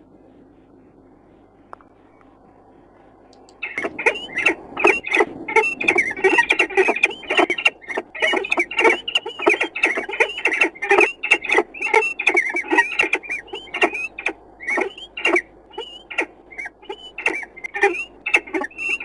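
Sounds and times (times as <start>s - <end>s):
birds squeaking and rasping: 3.5s - 19.0s.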